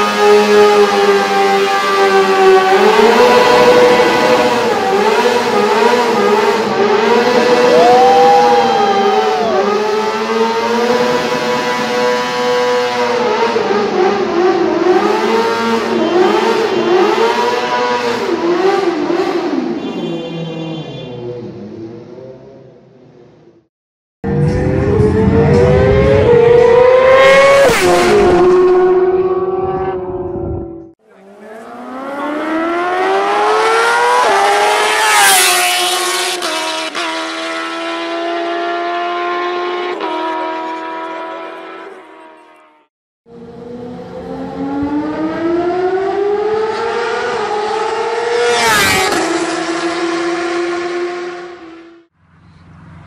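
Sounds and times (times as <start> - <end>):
motorcycle engine revving high: 0.0 - 20.0, 24.3 - 52.1.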